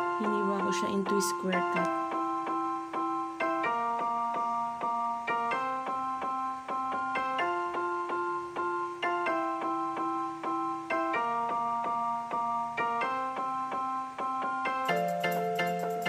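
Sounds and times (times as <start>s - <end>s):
keyboard tune: 0.0s - 16.0s.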